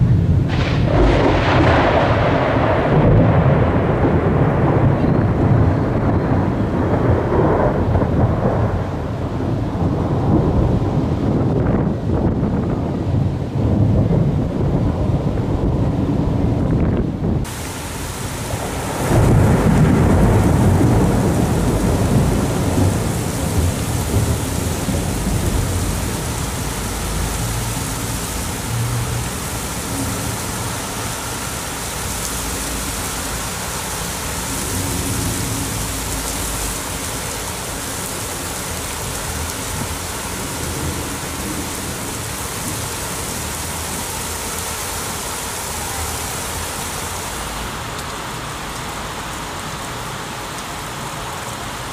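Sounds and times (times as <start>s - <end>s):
thunder rumbling: 0.0s - 44.5s
heavy rain: 0.0s - 51.9s.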